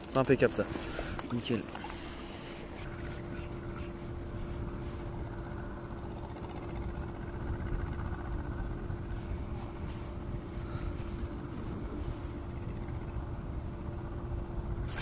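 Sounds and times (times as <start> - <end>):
constant low hum: 0.0 - 15.0
wind rumble on microphone: 2.8 - 15.0.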